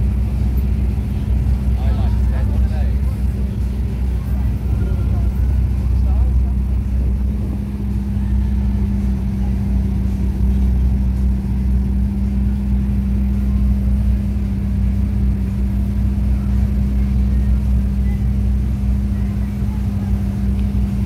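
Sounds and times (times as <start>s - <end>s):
sports car engines idling: 0.0s - 21.0s.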